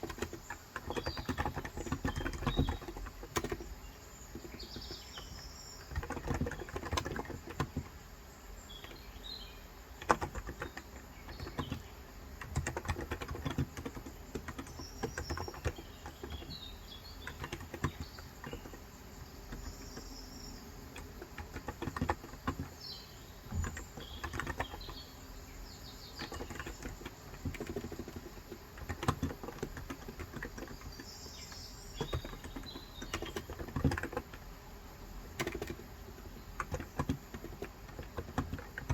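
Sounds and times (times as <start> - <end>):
keyboard typing: 0.0 - 8.0, 10.0 - 25.1, 25.8 - 34.5, 35.2 - 38.9
birds chirping: 0.0 - 38.9.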